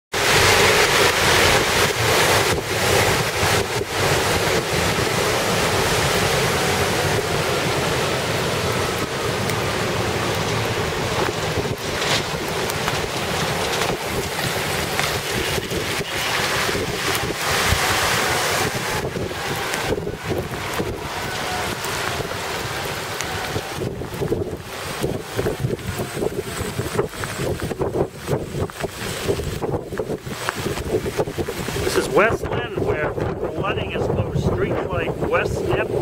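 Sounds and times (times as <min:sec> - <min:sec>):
truck tyres swishing through water: 0:00.1 - 0:36.0
wind buffeting microphone: 0:00.1 - 0:36.0.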